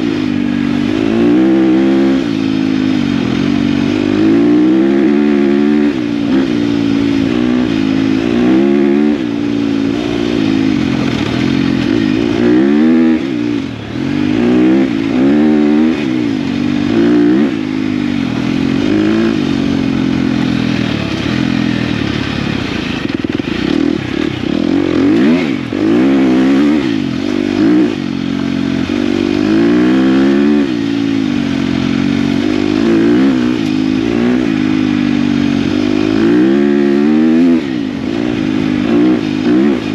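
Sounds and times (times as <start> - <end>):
dirt bike engine revving: 0.0 - 39.9
wind and road noise: 0.0 - 39.9.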